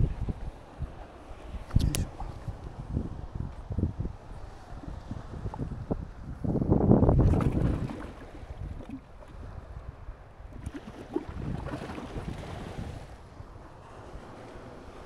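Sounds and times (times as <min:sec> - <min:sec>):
sea waves on shore: 0:00.0 - 0:15.0
wind buffeting microphone: 0:00.0 - 0:15.0.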